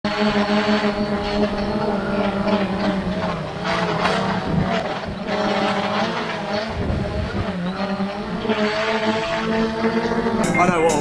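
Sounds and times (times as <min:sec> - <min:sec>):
drone propellers humming: 0:00.1 - 0:11.0.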